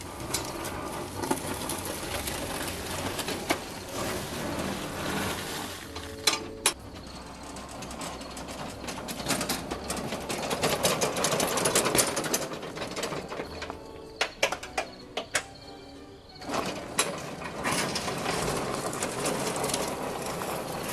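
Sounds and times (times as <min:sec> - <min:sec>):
gravel crunching: 0:00.0 - 0:20.9
lawn tractor clattering: 0:00.0 - 0:20.9.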